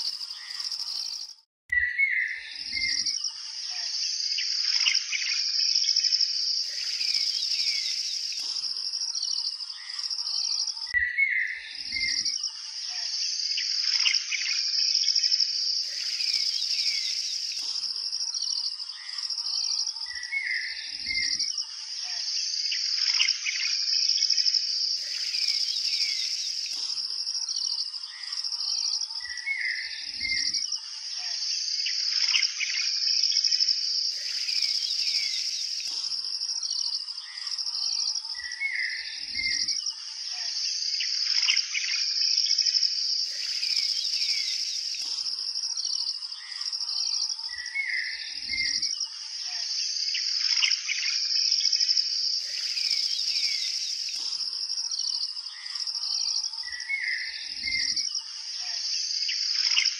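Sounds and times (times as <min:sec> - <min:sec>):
birds chirping: 0:00.0 - 0:33.2, 0:33.9 - 0:42.1, 0:42.9 - 0:51.2, 0:52.3 - 0:59.9
insect chorus: 0:00.0 - 0:59.9.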